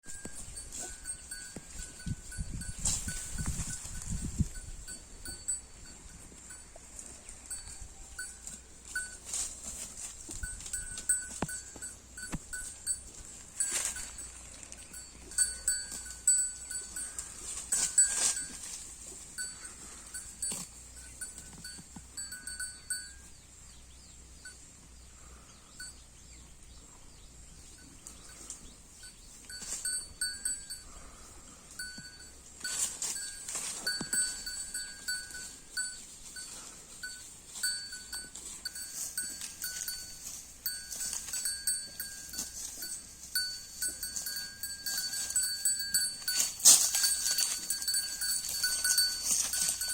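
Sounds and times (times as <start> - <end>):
cow chewing grass: 0.0 - 23.4, 27.7 - 49.9
high ringing tone: 0.0 - 23.4, 31.8 - 49.9.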